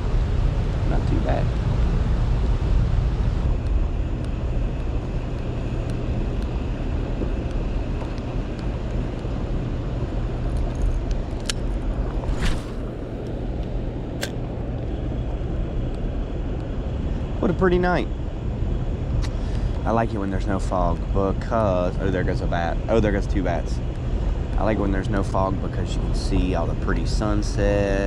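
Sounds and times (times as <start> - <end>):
low hum: 0.0 - 28.0
steady low rumble: 0.0 - 28.0.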